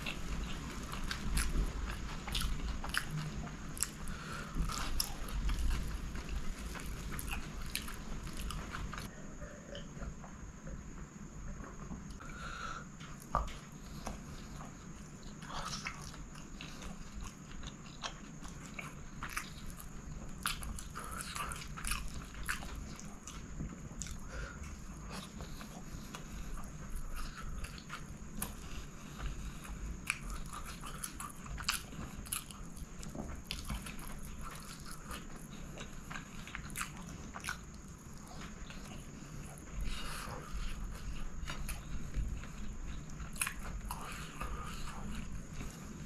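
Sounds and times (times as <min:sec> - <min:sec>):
person chewing food: 0:00.0 - 0:10.4, 0:11.8 - 0:46.0.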